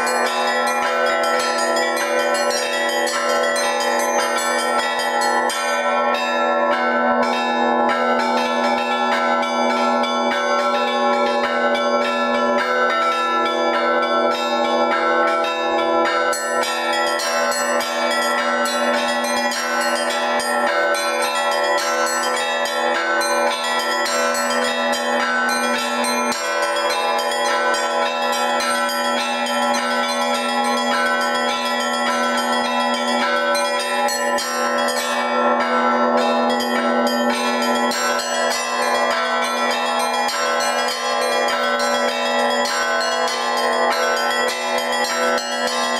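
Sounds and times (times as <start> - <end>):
lower bells ringing: 0.0 - 45.9
small high bells ringing fast: 0.0 - 45.9.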